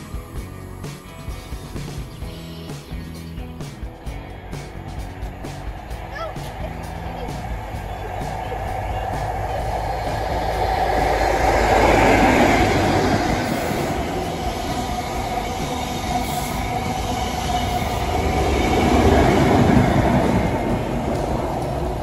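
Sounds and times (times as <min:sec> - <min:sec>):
diesel train passing at speed: 0:00.0 - 0:22.0
wheel-on-rail noise: 0:00.0 - 0:22.0.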